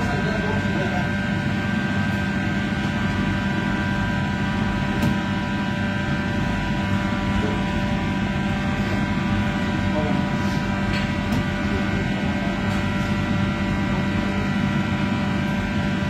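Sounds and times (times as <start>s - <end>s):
kitchen ventilation hum: 0.0s - 16.0s.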